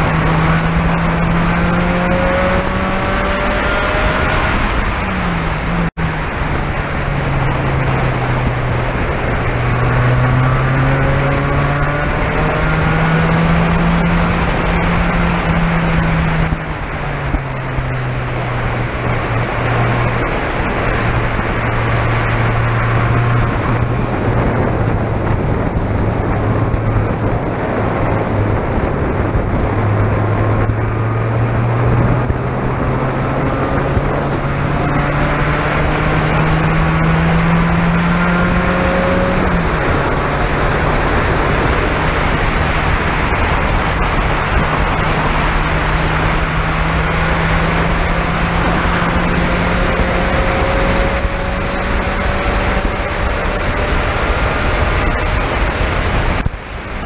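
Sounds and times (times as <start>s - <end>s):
race car engine revving: 0.0s - 57.0s
wind rush: 0.0s - 57.0s.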